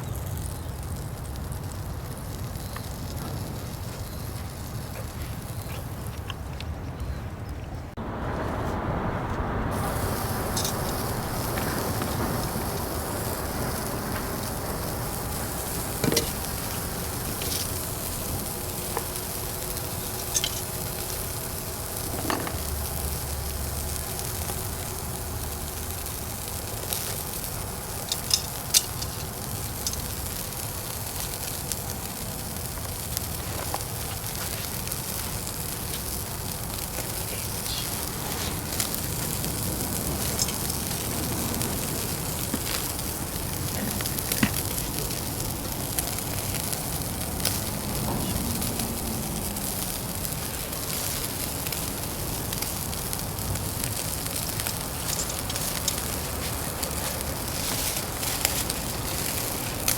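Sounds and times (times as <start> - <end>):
food sizzling on a grill: 0.0 - 6.3, 9.6 - 59.9
fire pops and crackles: 0.0 - 7.2, 7.9 - 59.9.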